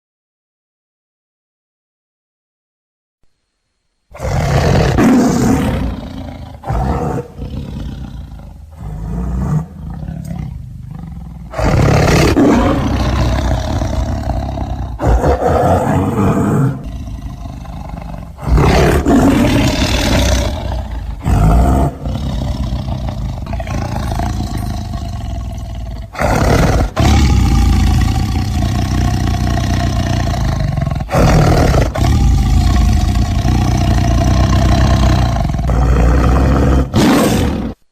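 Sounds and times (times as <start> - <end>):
tiger roaring and growling: 4.2 - 37.9.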